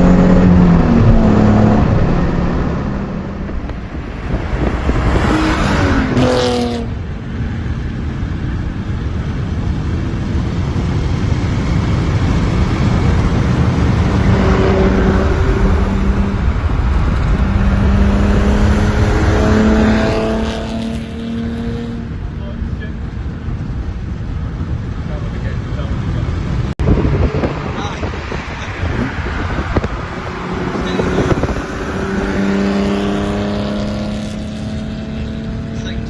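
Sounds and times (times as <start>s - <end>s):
car exhaust drone: 0.0s - 36.0s.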